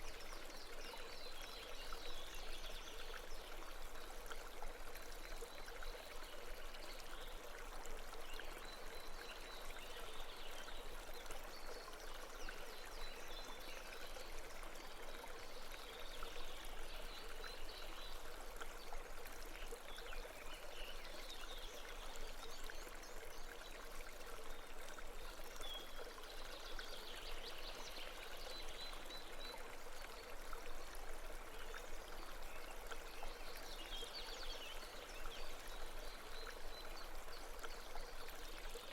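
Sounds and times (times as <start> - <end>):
brook water babbling: 0.0 - 38.9.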